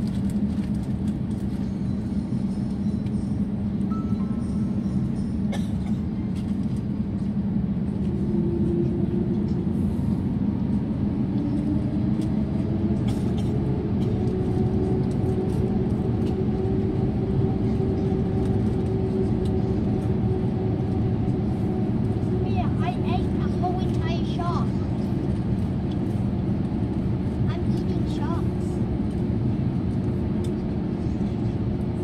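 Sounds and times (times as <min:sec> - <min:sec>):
jet engines low rumble: 0:00.0 - 0:32.0.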